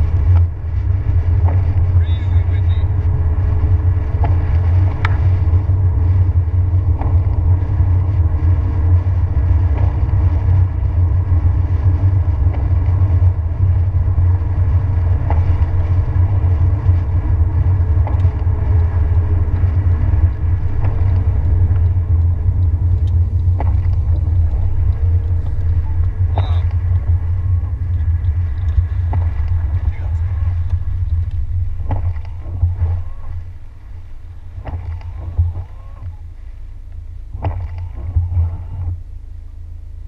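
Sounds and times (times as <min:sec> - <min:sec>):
tyres and engine rumble: 0:00.0 - 0:40.0
windshield wipers ticking: 0:00.2 - 0:07.6, 0:12.4 - 0:39.1.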